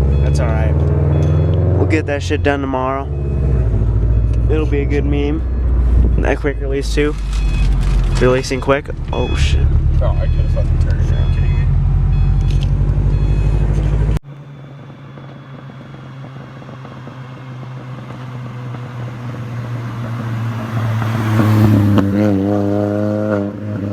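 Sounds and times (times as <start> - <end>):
car engine running: 0.0 - 22.3
steady engine hum: 0.0 - 23.4.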